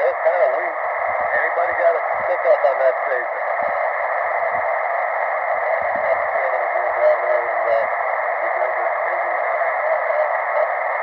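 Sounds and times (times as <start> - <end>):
radio band noise hiss: 0.0 - 11.0.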